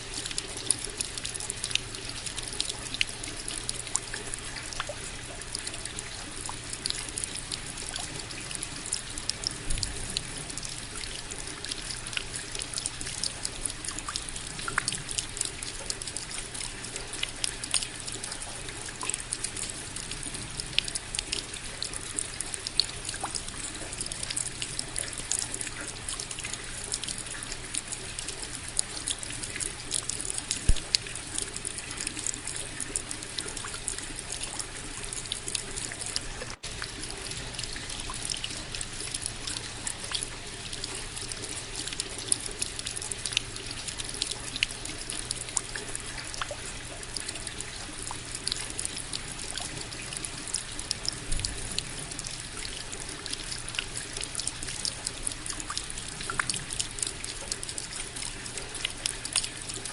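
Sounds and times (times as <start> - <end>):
rain patter: 0.0 - 59.9
water trickling: 0.0 - 59.9.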